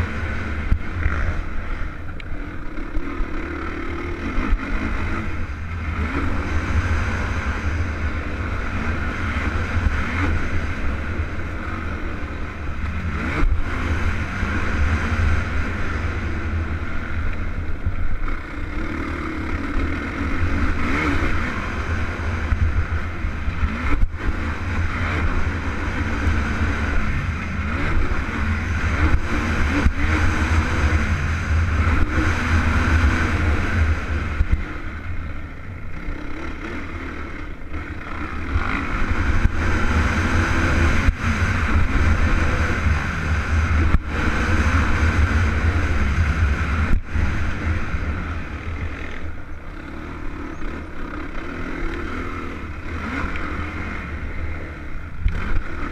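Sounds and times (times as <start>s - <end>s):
quad bike engine revving: 0.0s - 55.9s.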